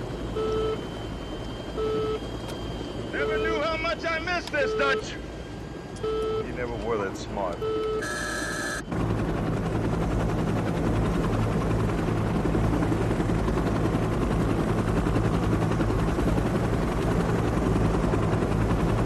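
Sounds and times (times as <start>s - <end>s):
helicopter engine drone: 0.0s - 19.0s
helicopter rotor chop: 0.0s - 19.0s.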